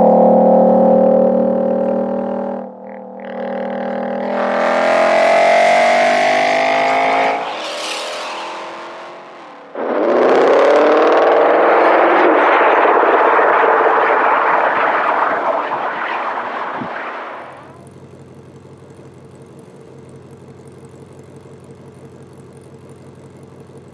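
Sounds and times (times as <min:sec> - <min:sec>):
car engine accelerating hard: 0:00.6 - 0:23.9.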